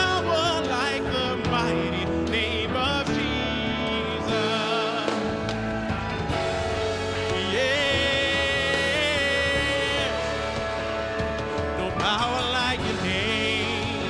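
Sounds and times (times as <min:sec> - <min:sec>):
person singing: 0:00.0 - 0:14.0
worship band playing: 0:00.0 - 0:14.0.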